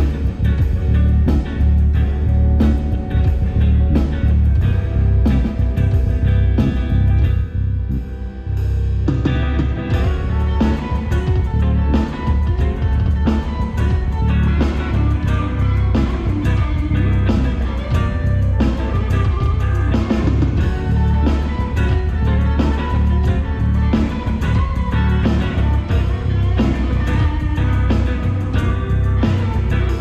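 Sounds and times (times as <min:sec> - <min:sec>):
bass guitar: 0:00.0 - 0:30.0
drum kit: 0:00.0 - 0:30.0
electric guitar: 0:00.0 - 0:30.0.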